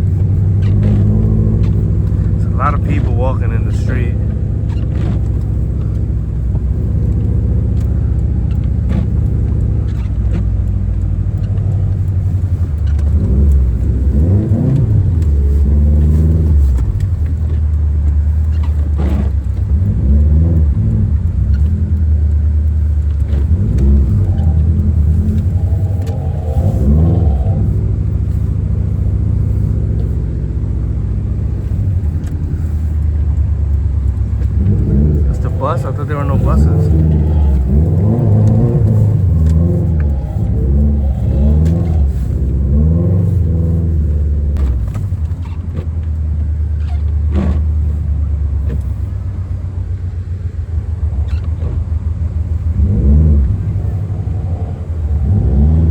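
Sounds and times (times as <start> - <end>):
car engine revving while driving: 0.0 - 55.9.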